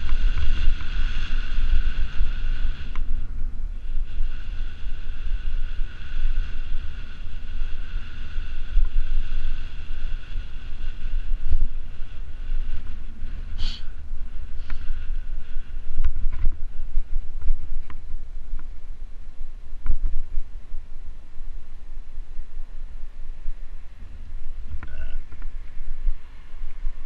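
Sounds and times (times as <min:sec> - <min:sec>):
faint high whine: 0:00.0 - 0:27.0
wind buffeting microphone: 0:00.0 - 0:27.0.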